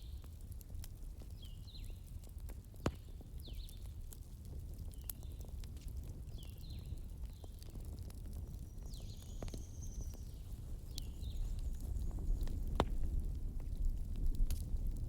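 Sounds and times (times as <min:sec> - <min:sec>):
fire crackling and popping: 0:00.0 - 0:15.0
wood fire rumbling: 0:00.1 - 0:15.0.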